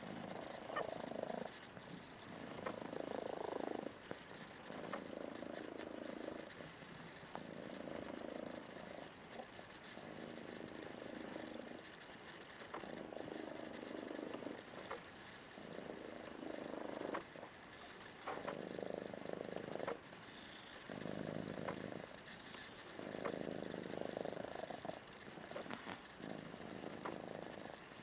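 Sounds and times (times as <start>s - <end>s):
faint clicks: 0.0s - 28.0s
kitten purring: 0.0s - 28.0s.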